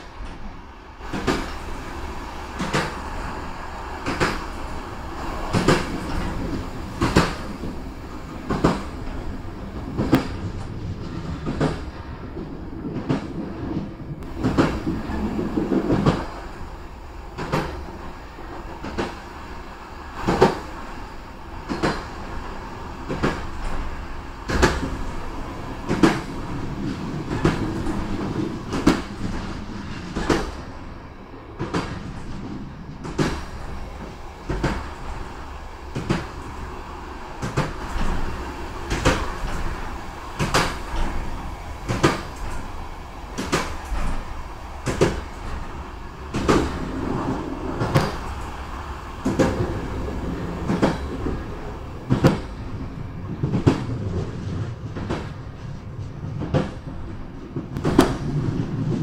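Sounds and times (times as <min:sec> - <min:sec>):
train rumble: 0:00.0 - 0:59.0
train wheels knocking over rail joints: 0:02.6 - 0:16.7, 0:23.0 - 0:30.7, 0:31.6 - 0:55.6, 0:56.2 - 0:59.0.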